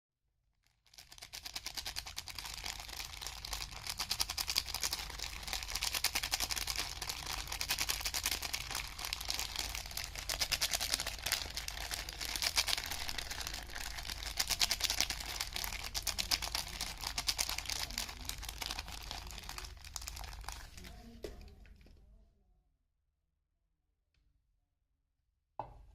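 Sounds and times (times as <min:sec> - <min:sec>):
soap wrapping crinkling: 0:00.6 - 0:21.5.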